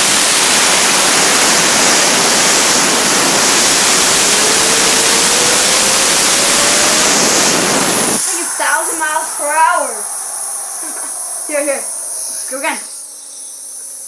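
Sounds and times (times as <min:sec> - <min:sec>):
compressed air hissing: 0:00.0 - 0:14.0
fidget spinner whine: 0:00.0 - 0:14.0.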